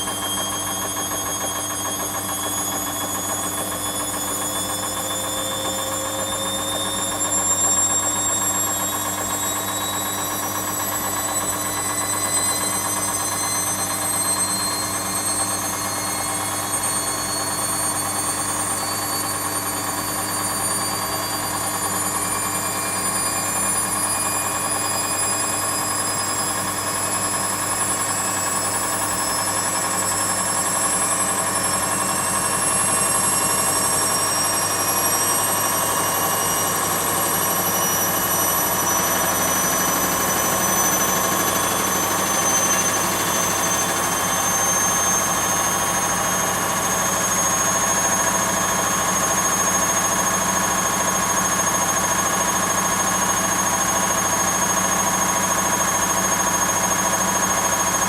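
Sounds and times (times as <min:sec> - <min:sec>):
high whine: 0:00.0 - 0:58.0
washing machine motor hum: 0:00.0 - 0:58.0.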